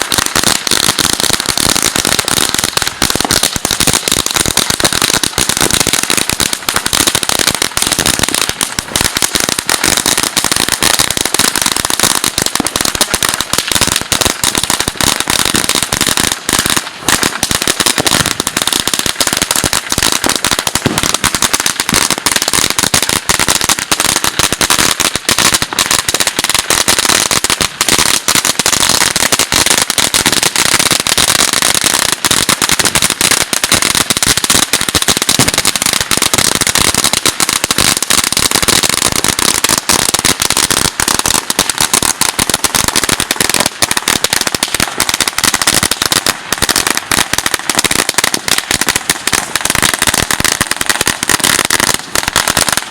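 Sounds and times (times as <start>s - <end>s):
firecrackers popping rapidly: 0.0s - 52.9s.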